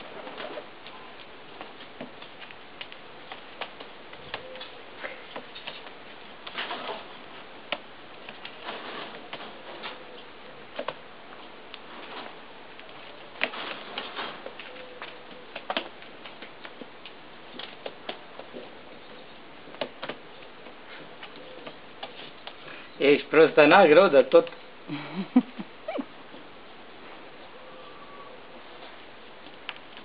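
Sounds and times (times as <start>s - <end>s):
pigeon pecking seeds: 0.0s - 23.0s, 25.6s - 30.0s.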